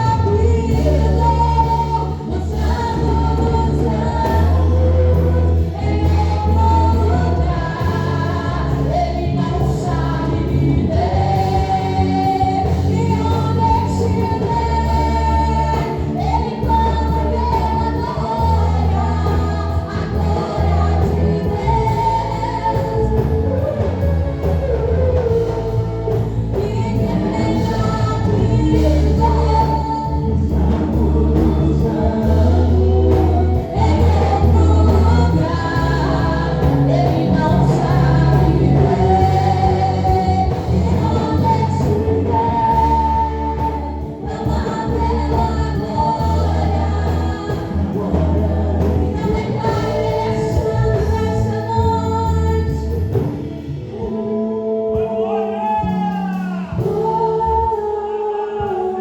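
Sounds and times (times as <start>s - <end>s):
band with strong bass line: 0.0s - 59.0s
voices singing gospel song: 0.0s - 59.0s.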